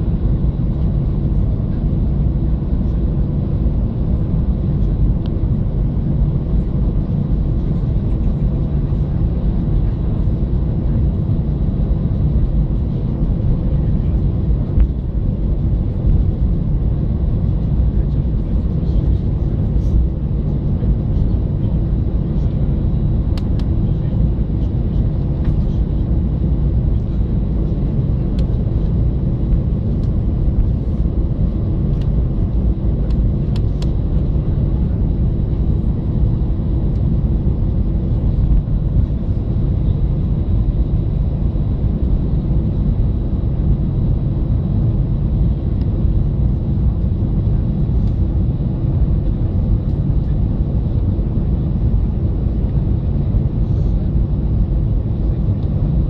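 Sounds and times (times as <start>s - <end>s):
jet engines low rumble: 0.0s - 56.0s.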